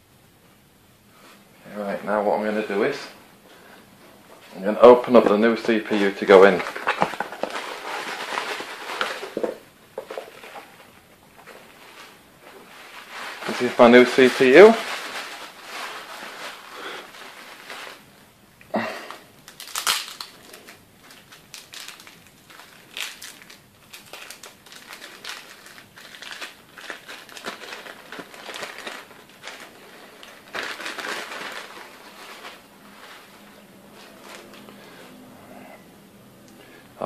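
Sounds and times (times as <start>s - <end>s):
plastic packaging crinkling: 4.4s - 18.4s, 19.1s - 35.0s.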